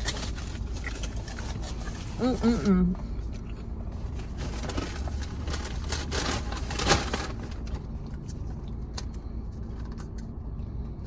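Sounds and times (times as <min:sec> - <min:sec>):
food packaging crinkling and scraping: 0:00.0 - 0:02.4, 0:03.3 - 0:10.4
steady low hum: 0:00.0 - 0:11.0.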